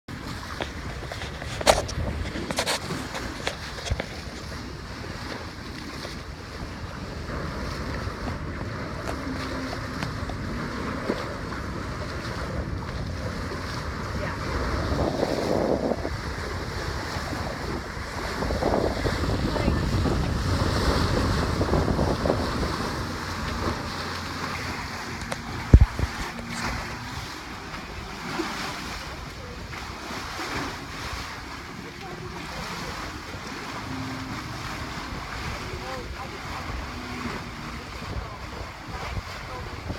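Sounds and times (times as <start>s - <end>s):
water rushing past hull: 0.1s - 39.9s
wind buffeting microphone: 0.1s - 39.9s.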